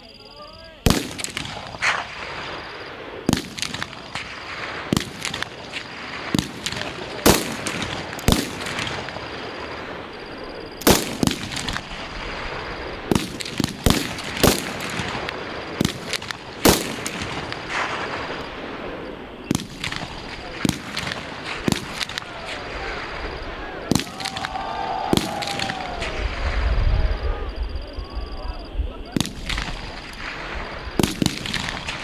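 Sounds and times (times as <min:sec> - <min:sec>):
rifle shots: 0:00.8 - 0:26.2, 0:29.2 - 0:32.0.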